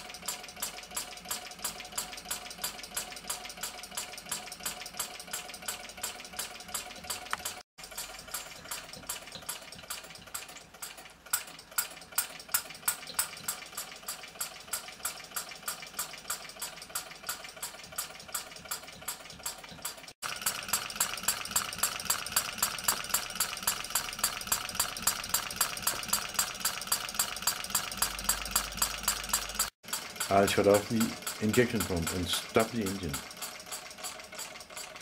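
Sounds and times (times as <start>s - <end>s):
model engine beating steadily: 0.0s - 35.0s.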